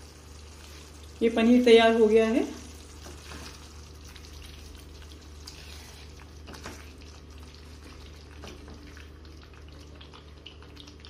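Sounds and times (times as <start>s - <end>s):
gravy simmering and sizzling: 0.0s - 11.0s.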